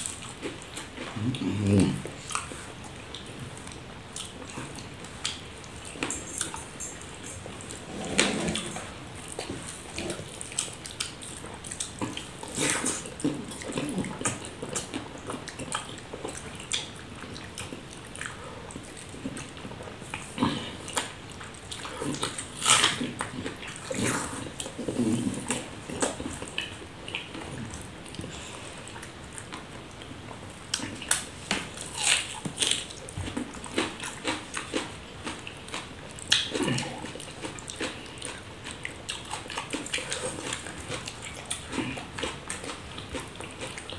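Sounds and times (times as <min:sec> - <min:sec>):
wet chewing and lip-smacking: 0:00.0 - 0:06.1, 0:09.2 - 0:43.9.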